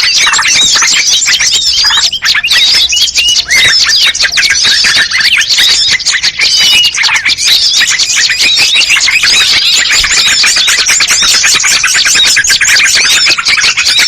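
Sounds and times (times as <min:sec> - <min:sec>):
songbirds chirping and whistling: 0:00.0 - 0:14.0.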